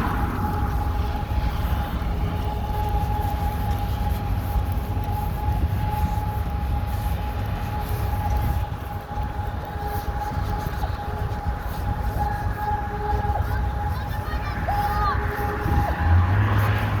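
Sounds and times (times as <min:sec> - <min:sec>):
constant low rumble: 0:00.0 - 0:17.0
industrial warning siren steady tone: 0:00.0 - 0:17.0.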